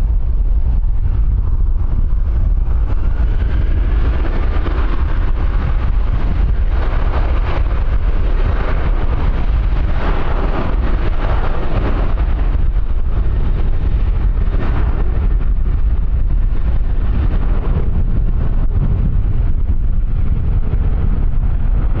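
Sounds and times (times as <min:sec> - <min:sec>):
aircraft engine: 0:00.0 - 0:22.0
wind buffeting microphone: 0:00.0 - 0:22.0.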